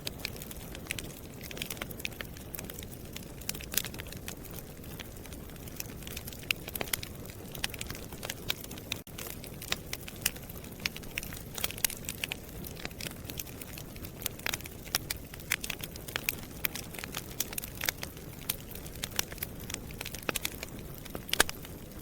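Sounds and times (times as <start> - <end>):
wood crackling and popping: 0.0 - 22.0.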